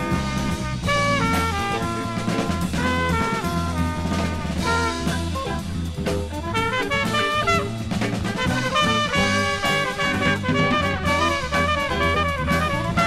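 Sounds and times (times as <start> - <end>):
jazz-rock music: 0.0 - 13.0.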